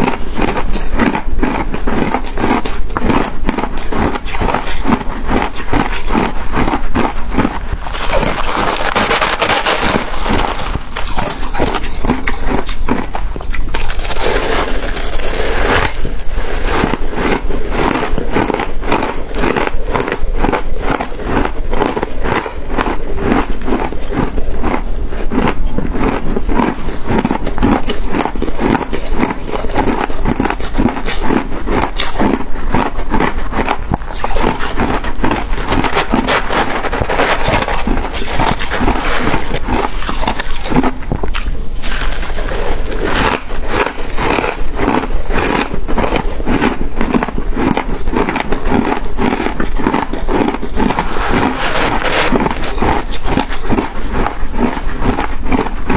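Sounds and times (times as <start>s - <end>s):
crunching shaved ice: 0.0s - 55.9s.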